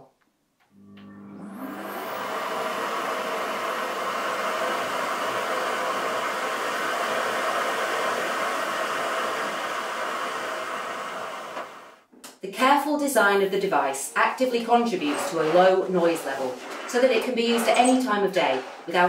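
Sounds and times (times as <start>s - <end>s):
vacuum cleaner running: 0.7s - 12.0s, 14.6s - 19.0s.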